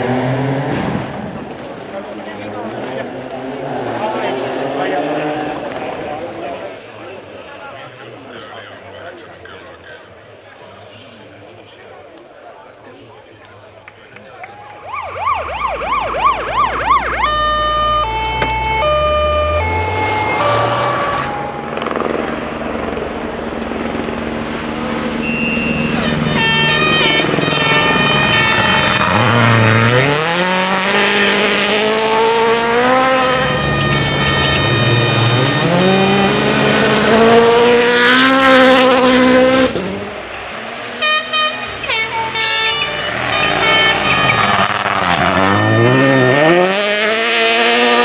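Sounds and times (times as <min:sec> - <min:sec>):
rally car engine revving: 0:00.0 - 0:07.3, 0:14.8 - 0:48.0.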